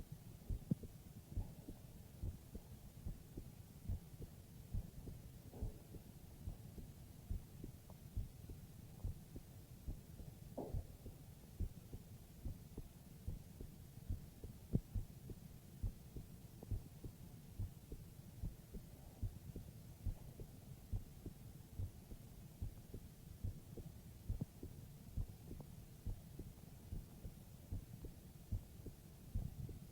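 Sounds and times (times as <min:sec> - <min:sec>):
heartbeat thumps: 0:00.0 - 0:29.9.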